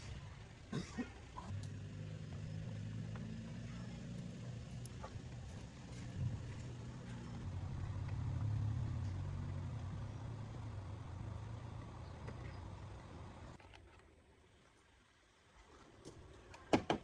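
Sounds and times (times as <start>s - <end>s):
vehicle engine rumbling: 0.0s - 16.6s.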